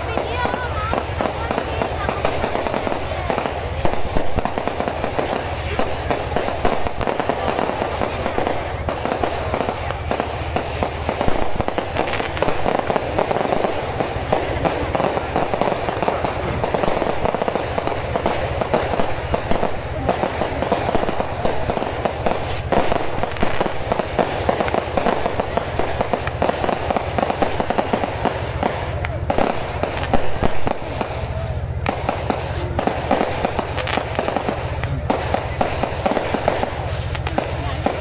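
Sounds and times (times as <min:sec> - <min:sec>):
fireworks crackling: 0:00.0 - 0:38.0.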